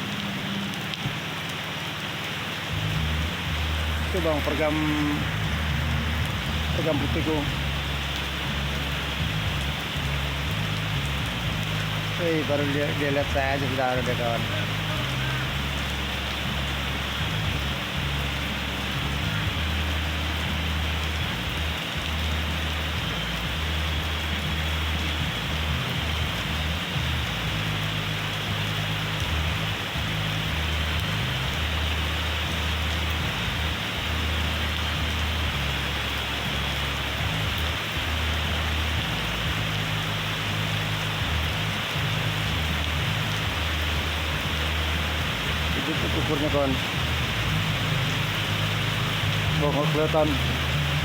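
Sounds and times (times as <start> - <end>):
steady rain hiss: 0.0 - 51.0
low rumble: 2.6 - 51.0.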